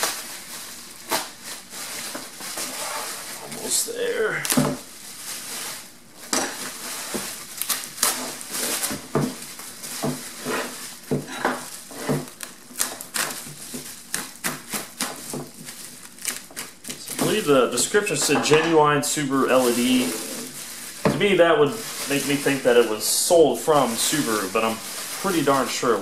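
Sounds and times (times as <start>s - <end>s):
bubble wrap and plastic crinkling: 0.0s - 26.0s.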